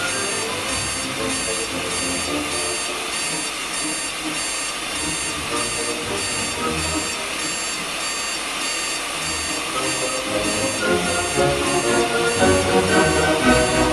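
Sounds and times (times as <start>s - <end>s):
alarm clock beeping: 0.0s - 13.9s.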